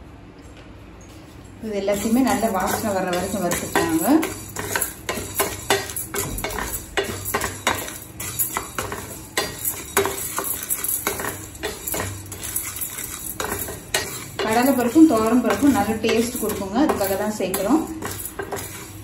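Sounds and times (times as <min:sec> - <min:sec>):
seeds rattling in pan: 0:01.9 - 0:19.0
spatula scraping steel pan: 0:01.9 - 0:19.0.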